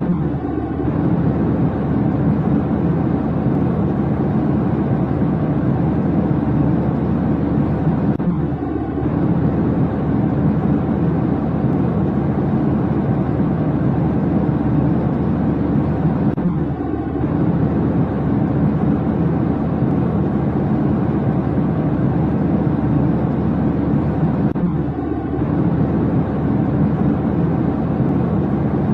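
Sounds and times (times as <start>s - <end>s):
airliner cabin rumble: 0.0s - 28.9s.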